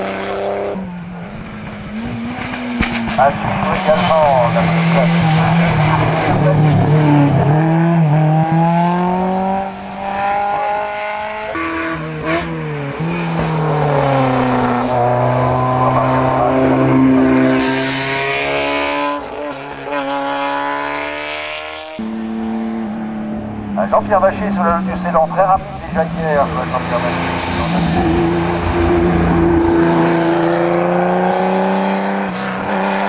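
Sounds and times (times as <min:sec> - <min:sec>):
racing car engines accelerating: 0:00.0 - 0:33.0.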